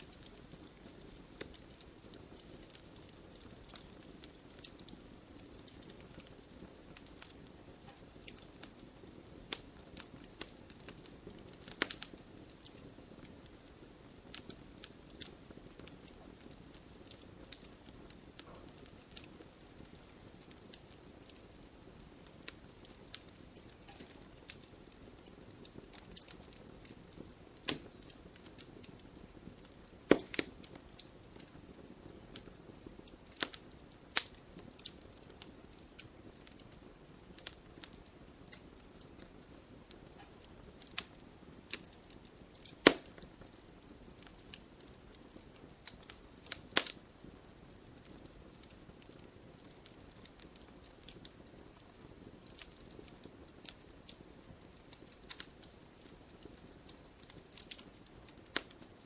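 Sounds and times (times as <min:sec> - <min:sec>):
fire crackling: 0:00.0 - 0:59.0
fire popping and snapping: 0:00.0 - 0:59.0.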